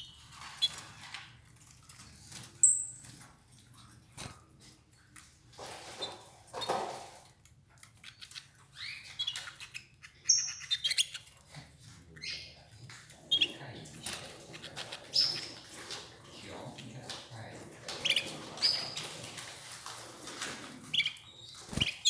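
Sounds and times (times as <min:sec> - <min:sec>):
canaries chirping: 0:00.0 - 0:04.2, 0:05.0 - 0:22.0
rustling in cage: 0:00.2 - 0:09.8, 0:10.8 - 0:22.0.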